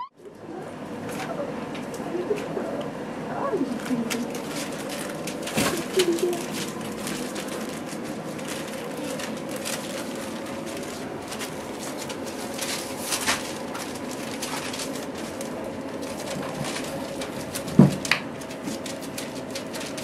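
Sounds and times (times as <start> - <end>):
steady low hum: 0.1 - 20.0
newspaper rustling under paws: 3.7 - 20.0.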